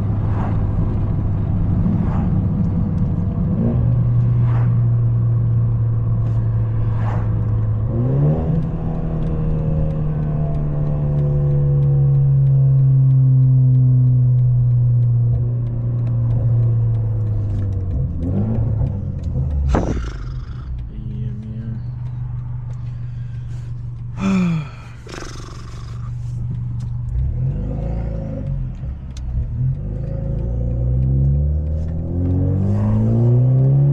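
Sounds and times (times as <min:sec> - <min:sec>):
car exhaust droning: 0:00.0 - 0:33.9.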